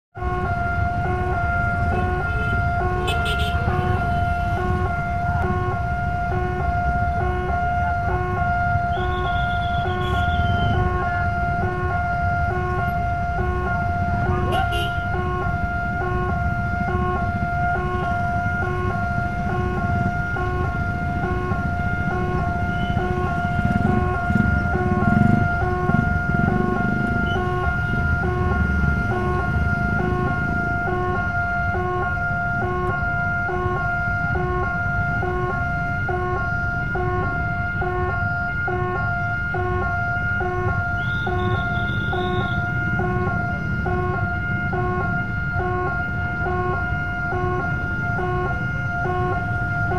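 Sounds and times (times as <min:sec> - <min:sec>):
level crossing warning alarm: 0:00.1 - 0:49.9
motorcycles and traffic rumble: 0:00.2 - 0:49.9.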